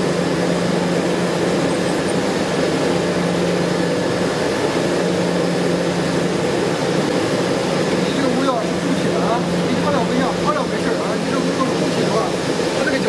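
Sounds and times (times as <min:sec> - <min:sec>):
cooking mixer running with low hum: 0:00.0 - 0:13.0.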